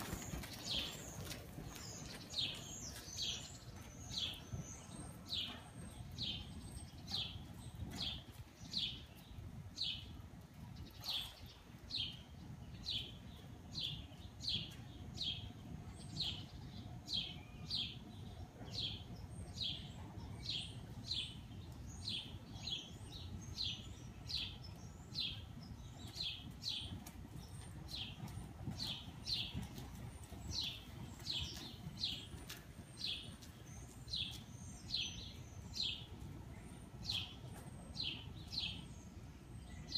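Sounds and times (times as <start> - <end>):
bird chirping: 0.0 - 10.1, 10.8 - 39.9.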